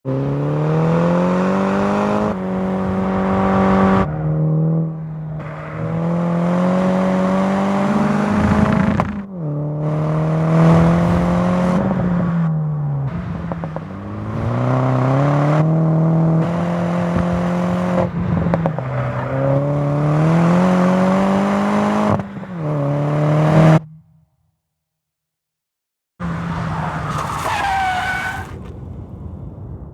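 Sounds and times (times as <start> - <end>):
car engine accelerating through gears: 0.1 - 24.0.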